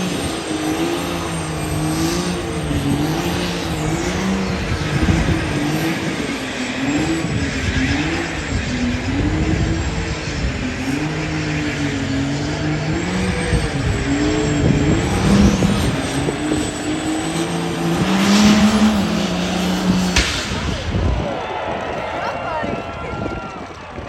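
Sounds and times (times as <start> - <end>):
diesel truck engine running hard: 0.0 - 24.0.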